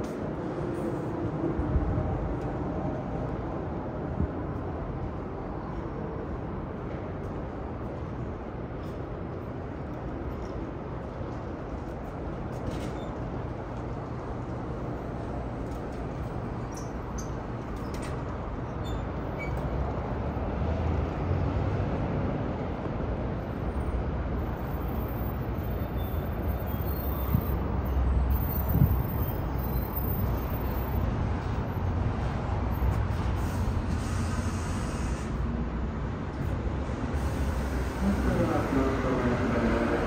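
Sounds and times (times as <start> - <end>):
city traffic rumble: 0.0 - 40.0.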